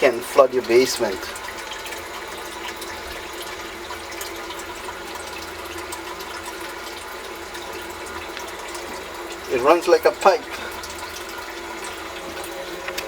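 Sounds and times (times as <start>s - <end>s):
sump pump rushing water: 0.0s - 13.0s.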